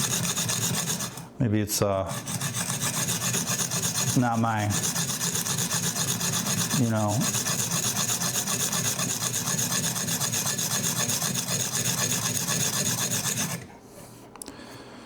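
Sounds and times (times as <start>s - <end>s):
sharpening stone rasping on knife: 0.0s - 1.3s, 2.1s - 13.7s.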